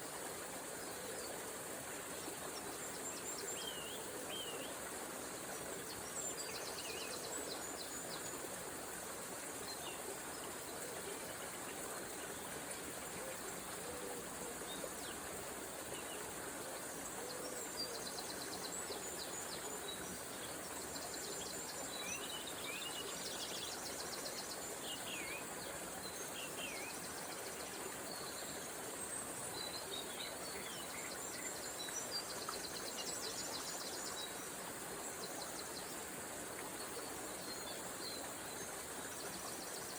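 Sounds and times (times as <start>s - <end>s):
small river flowing: 0.0s - 39.9s
songbirds singing: 2.2s - 8.7s, 9.6s - 39.9s.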